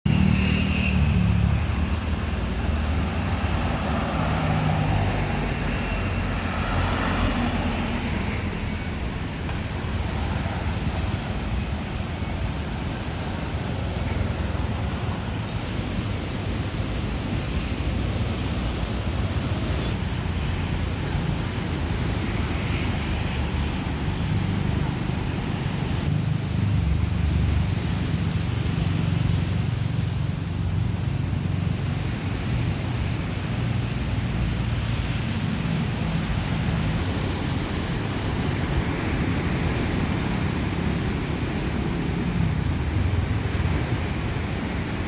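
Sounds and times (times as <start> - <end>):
motor vehicles passing: 0.1 - 45.0.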